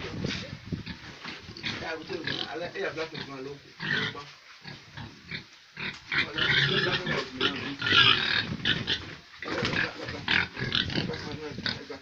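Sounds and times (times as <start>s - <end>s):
pig grunting: 0.9s - 12.0s
pig squealing: 1.5s - 11.4s.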